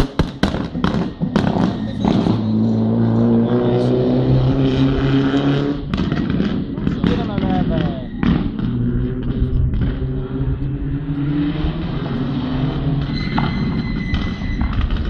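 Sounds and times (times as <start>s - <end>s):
rally car engine accelerating: 0.6s - 15.0s.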